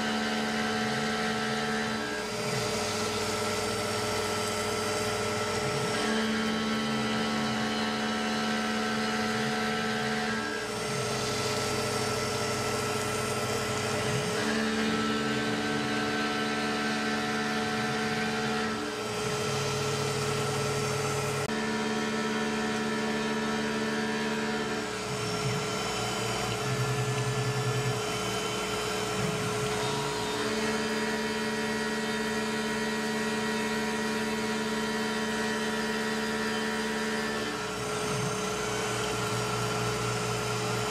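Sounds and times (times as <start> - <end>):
milling machine whine: 0.0 - 40.9.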